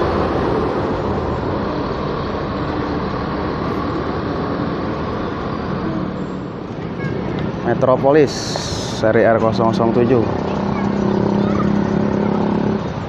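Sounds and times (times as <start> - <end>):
bus diesel engine running: 0.0 - 13.0
traffic rumble: 0.0 - 13.0.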